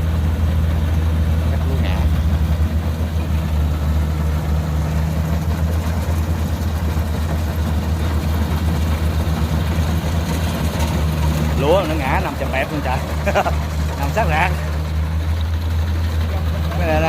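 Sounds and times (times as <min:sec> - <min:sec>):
combine harvester engine drone: 0:00.0 - 0:17.0.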